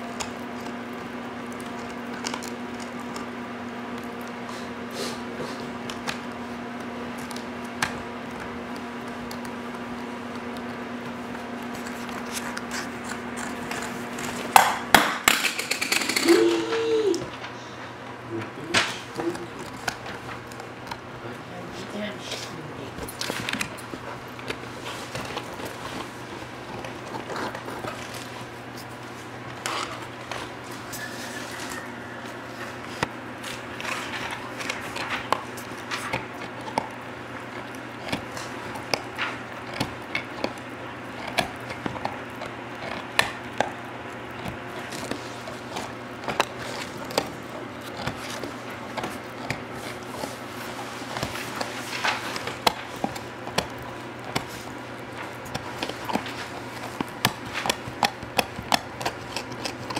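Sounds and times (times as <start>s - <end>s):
puppy gnawing on chew bone: 0.0s - 16.0s, 17.4s - 59.9s.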